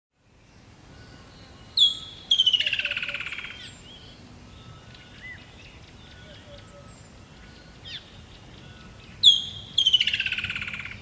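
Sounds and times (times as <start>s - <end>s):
songbird trilling: 0.5s - 11.0s.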